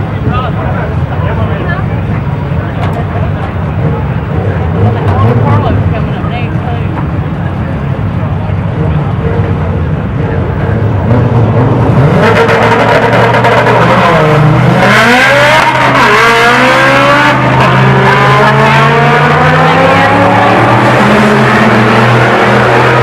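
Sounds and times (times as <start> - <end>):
drag car engine revving: 0.0 - 23.0.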